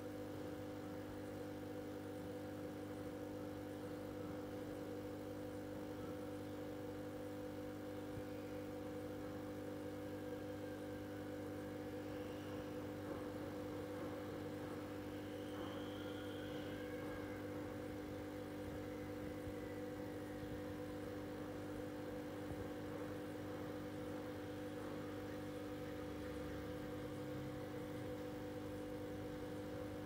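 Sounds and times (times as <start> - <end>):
aquarium air pump humming: 0.0 - 30.0.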